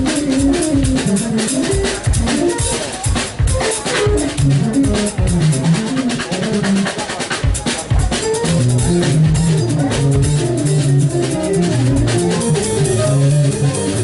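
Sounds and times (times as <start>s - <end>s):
drum kit hits: 0.0s - 14.0s
keyboard line and chords: 0.0s - 14.0s.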